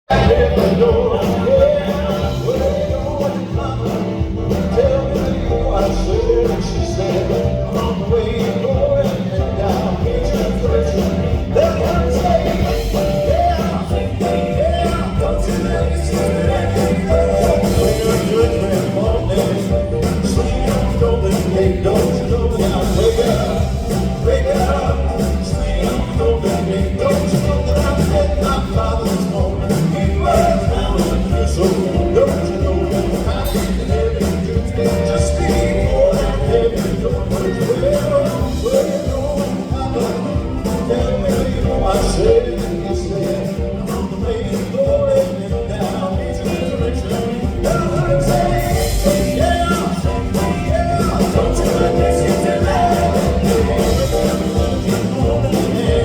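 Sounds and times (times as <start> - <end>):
band playing: 0.0 - 56.0
drum beat: 0.0 - 56.0
male voices singing: 0.0 - 56.0.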